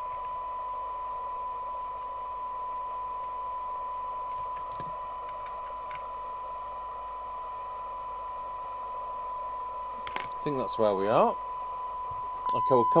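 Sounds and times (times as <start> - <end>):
radio test tone in hiss: 0.0 - 13.0.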